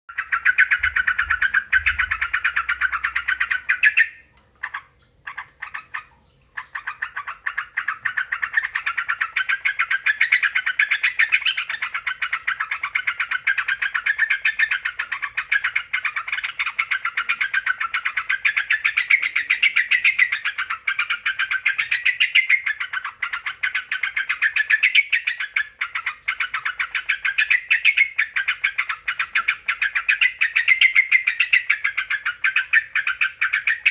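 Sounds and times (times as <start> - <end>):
bulbul chattering song: 0.1 - 33.9.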